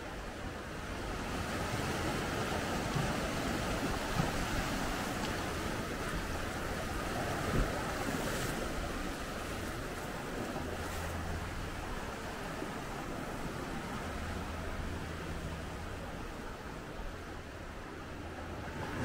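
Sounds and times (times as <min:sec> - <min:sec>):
waves washing over rocks: 0:00.0 - 0:19.0.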